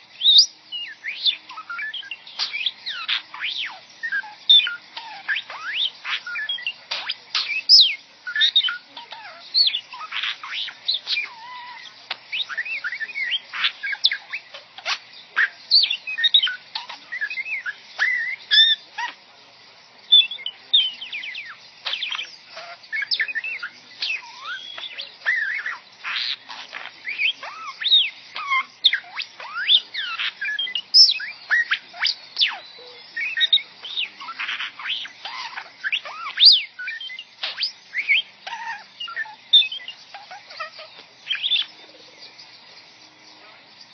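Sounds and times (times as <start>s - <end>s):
pet bird chattering: 0.2s - 19.3s, 20.1s - 42.6s.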